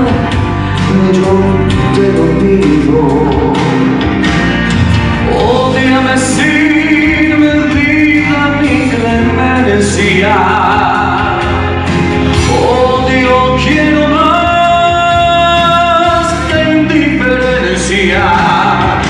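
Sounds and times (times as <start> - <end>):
two men singing a duet: 0.0 - 4.2, 5.2 - 19.0
musical backing: 0.0 - 19.0.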